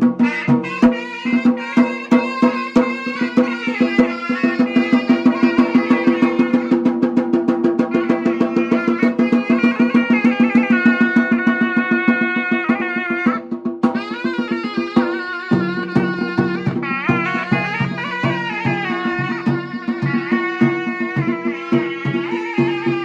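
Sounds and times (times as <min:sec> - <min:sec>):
drums beating: 0:00.0 - 0:23.0
folk melody: 0:00.2 - 0:23.0.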